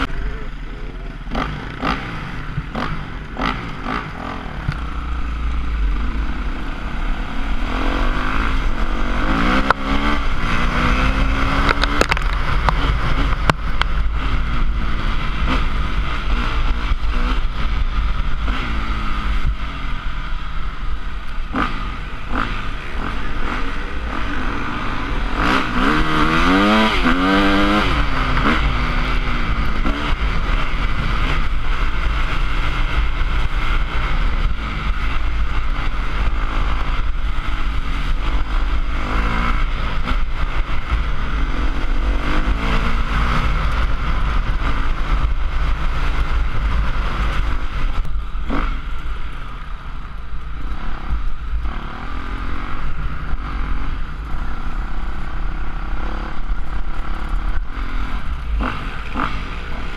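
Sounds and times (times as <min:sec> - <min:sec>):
trail bike engine revving: 0:00.0 - 0:59.9.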